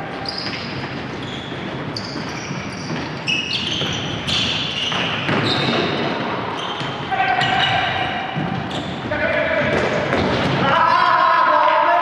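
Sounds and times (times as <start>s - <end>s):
sneakers squeaking on floor: 0.0s - 11.0s.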